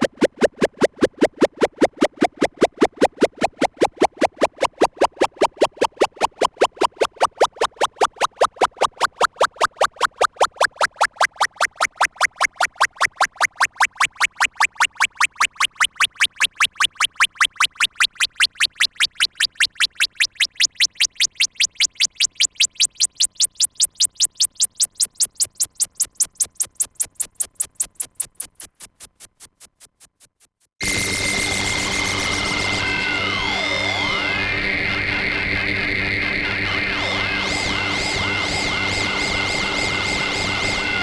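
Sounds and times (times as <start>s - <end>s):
rising electronic pulses: 0.6s - 41.0s.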